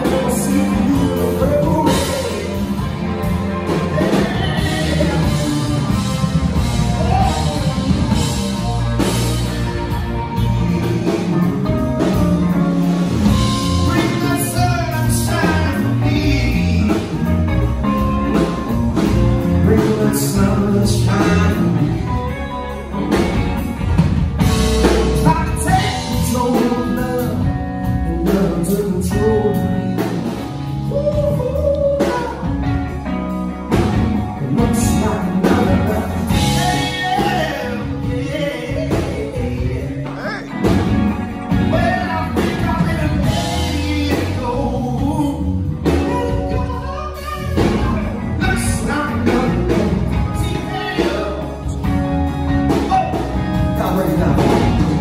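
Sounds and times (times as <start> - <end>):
man singing: 0.0 - 23.4, 24.4 - 55.0
drum kit: 0.0 - 55.0
electric bass: 0.0 - 55.0
electric guitar: 0.0 - 55.0.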